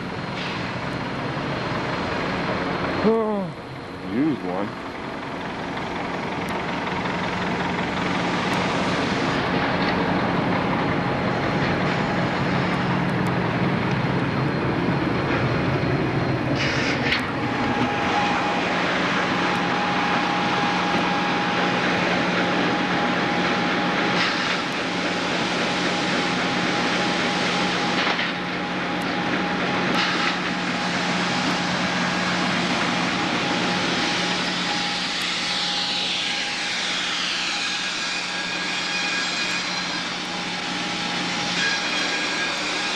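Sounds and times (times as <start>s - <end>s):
high mechanical whine: 0.0s - 42.9s
sawmill machinery hum: 0.0s - 42.9s.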